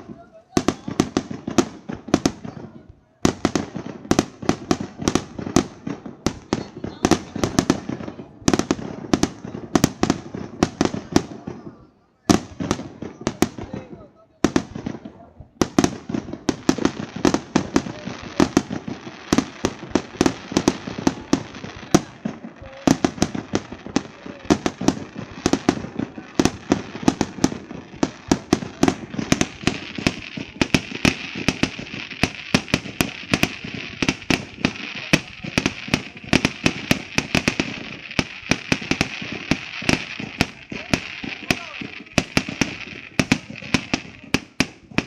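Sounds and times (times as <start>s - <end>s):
fireworks bangs: 0.0s - 45.0s
fireworks crackle: 0.0s - 45.0s.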